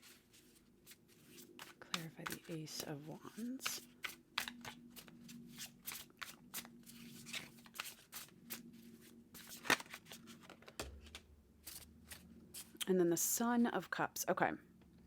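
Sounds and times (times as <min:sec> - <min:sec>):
cards being shuffled: 0:00.0 - 0:12.8.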